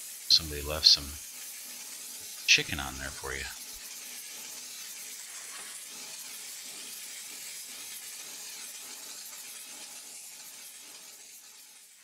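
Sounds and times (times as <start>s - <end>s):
steam jet hissing: 0.0s - 12.0s.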